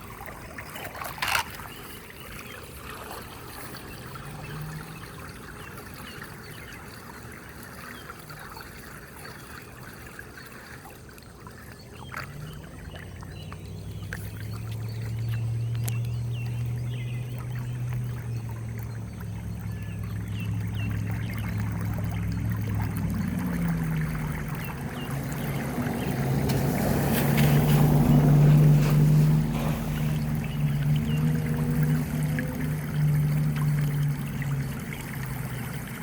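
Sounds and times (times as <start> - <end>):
water gurgling down drain: 0.0 - 36.0.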